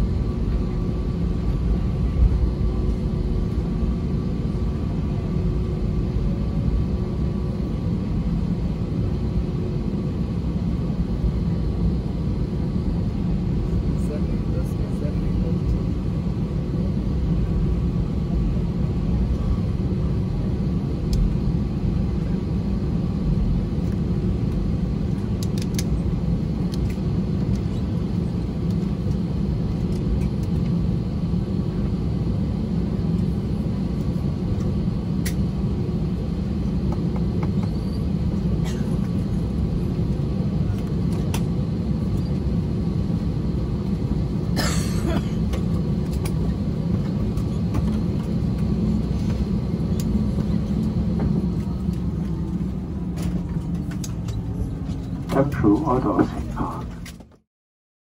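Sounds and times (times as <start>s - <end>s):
aircraft cabin rumble: 0.0s - 57.4s.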